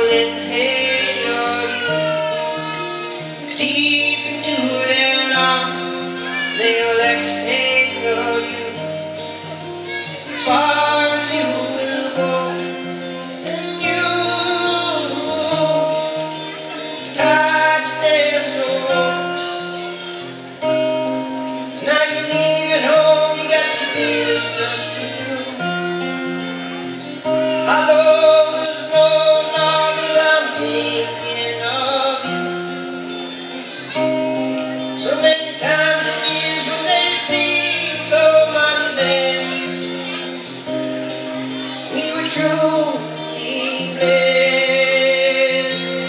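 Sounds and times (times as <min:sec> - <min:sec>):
acoustic guitar: 0:00.0 - 0:46.0
man singing: 0:00.0 - 0:46.0.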